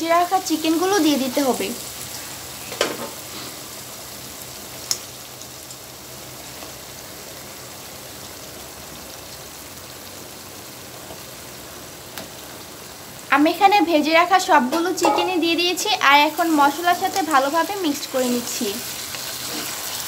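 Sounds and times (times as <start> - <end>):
paste sizzling in a frying pan: 0.0 - 20.0.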